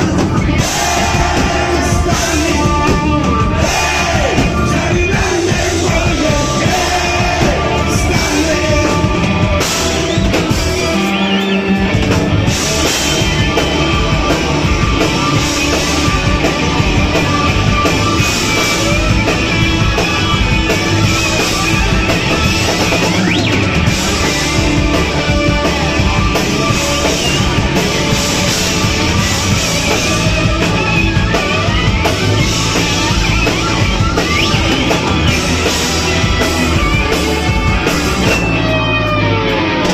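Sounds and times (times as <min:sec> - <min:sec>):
drum kit: 0:00.0 - 0:39.9
guitar: 0:00.0 - 0:39.9
live rock band: 0:00.0 - 0:39.9.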